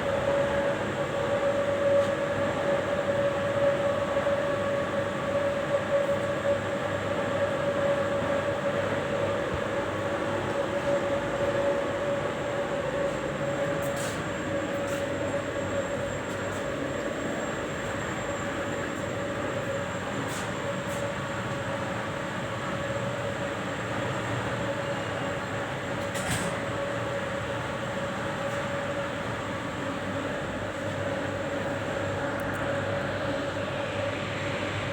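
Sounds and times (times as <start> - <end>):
fans and machinery rushing: 0.0 - 34.9.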